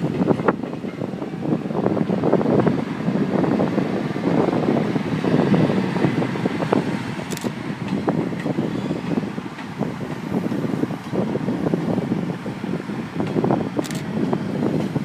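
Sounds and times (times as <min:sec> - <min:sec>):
diesel railcar rumble: 0:00.0 - 0:15.0.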